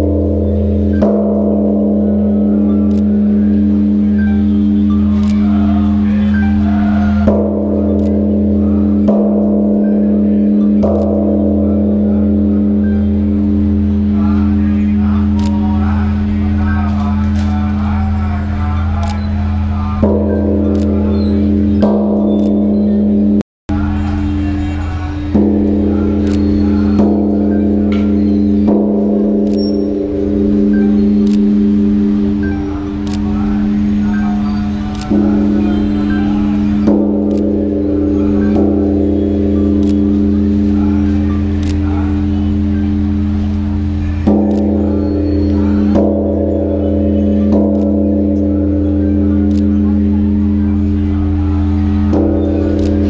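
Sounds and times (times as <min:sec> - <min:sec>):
large bronze bell struck: 0:00.0 - 0:53.0.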